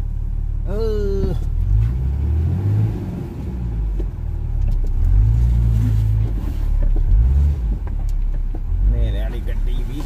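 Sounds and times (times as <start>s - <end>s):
vehicle engine revving: 0.6s - 10.0s.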